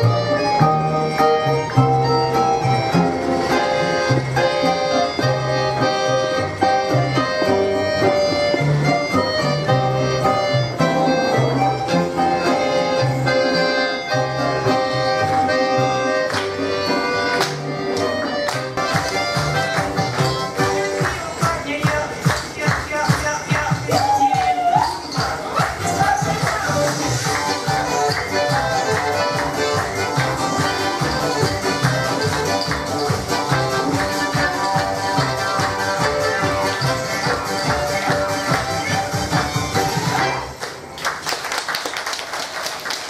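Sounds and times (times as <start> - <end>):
accordion folk dance tune: 0.0 - 40.9.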